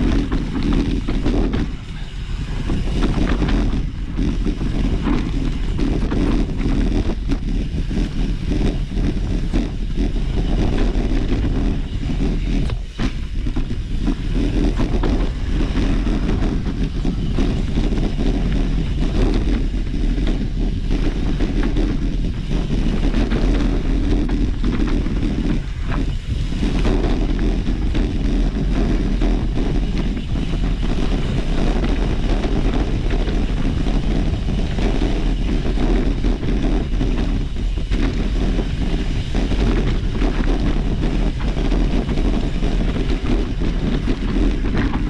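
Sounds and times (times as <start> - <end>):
road noise: 0.0 - 45.0
rumbling wind: 0.0 - 45.0.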